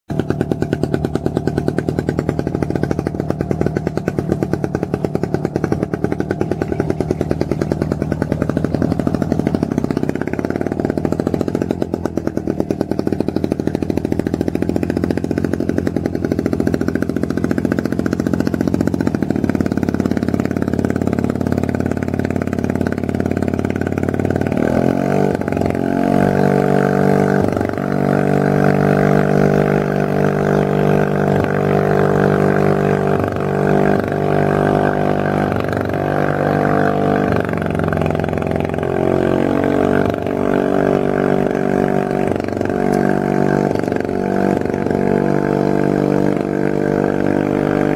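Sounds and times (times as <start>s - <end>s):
amphibious vehicle engine running: 0.1s - 47.9s.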